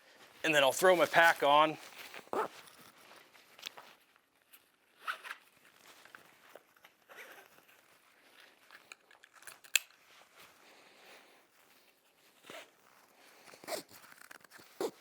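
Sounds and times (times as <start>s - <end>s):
nylon pack straps rustling: 0.0s - 15.0s.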